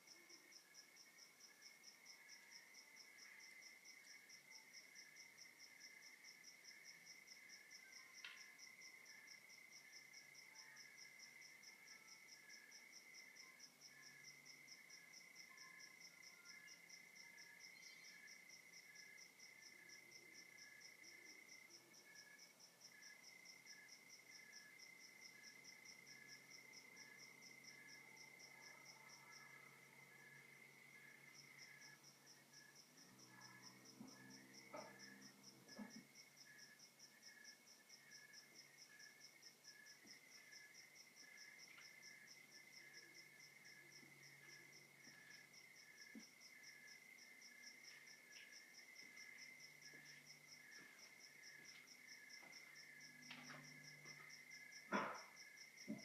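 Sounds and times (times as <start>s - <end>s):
cricket steady trill: 0.0s - 56.0s
crickets pulsed chirping: 0.0s - 56.0s.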